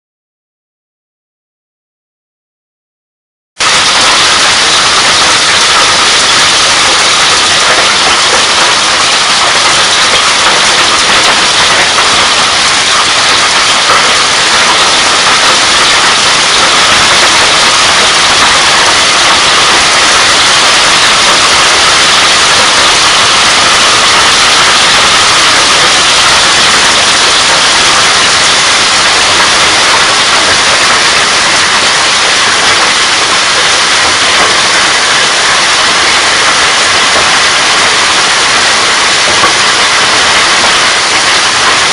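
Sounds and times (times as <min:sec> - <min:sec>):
hail and heavy rain: 0:03.6 - 0:41.9.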